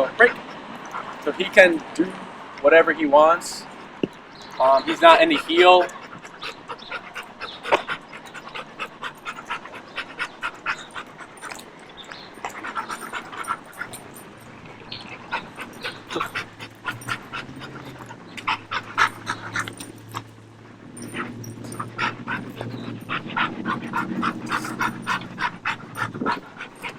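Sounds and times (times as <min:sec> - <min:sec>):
dog panting: 0:00.0 - 0:02.4, 0:03.2 - 0:26.9.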